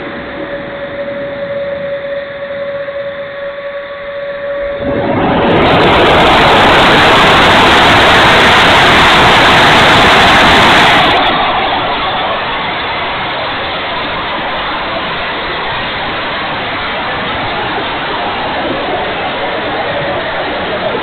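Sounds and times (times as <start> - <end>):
electric ducted fan whine: 0.0 - 21.0
rushing airflow over camera: 0.0 - 21.0.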